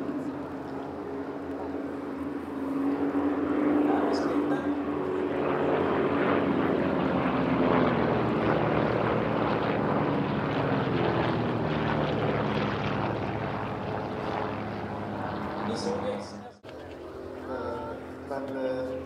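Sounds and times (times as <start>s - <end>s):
propeller aircraft engines: 0.0s - 19.0s.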